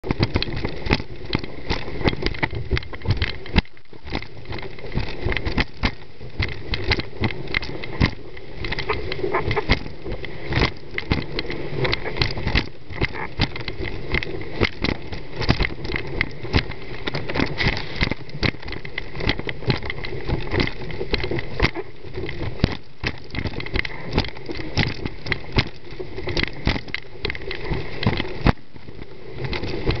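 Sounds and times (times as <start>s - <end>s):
board slapping on water: 0.0s - 30.0s.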